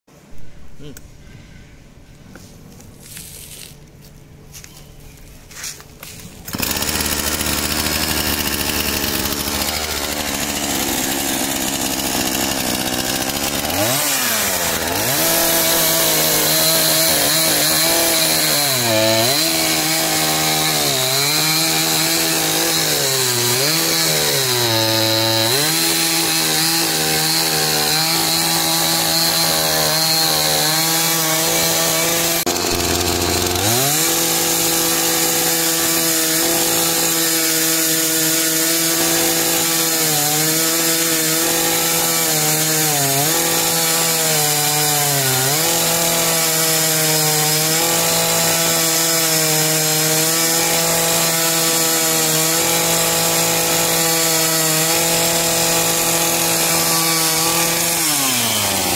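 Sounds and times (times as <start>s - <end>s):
chainsaw cutting log: 6.4s - 58.9s.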